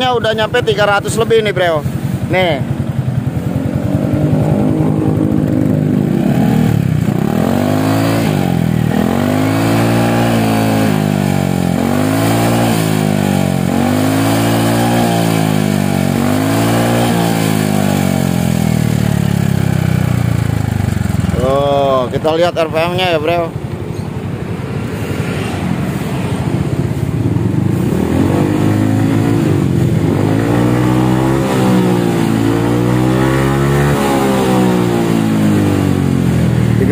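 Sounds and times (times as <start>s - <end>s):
scooter engine revving: 0.0s - 36.9s.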